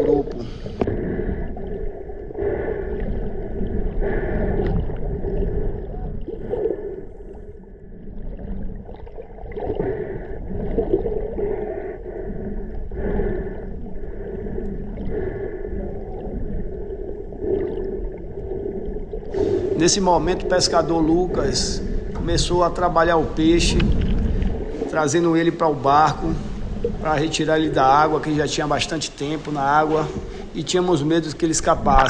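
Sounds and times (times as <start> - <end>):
steady low hum: 0.0 - 8.8, 9.5 - 32.0
water moving and bubbling underwater: 0.0 - 32.0.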